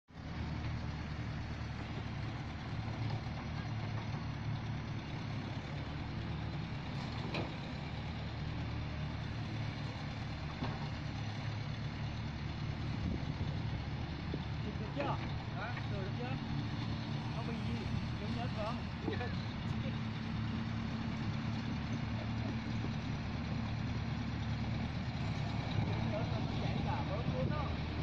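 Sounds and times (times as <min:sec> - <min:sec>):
excavator diesel engine running: 0:00.1 - 0:28.0.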